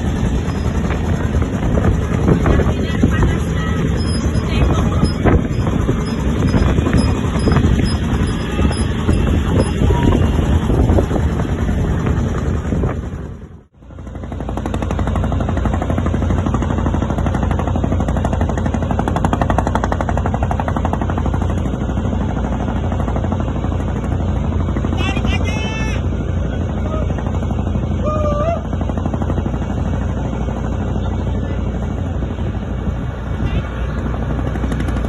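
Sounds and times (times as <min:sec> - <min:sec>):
boat engine pounding: 0:00.0 - 0:35.0.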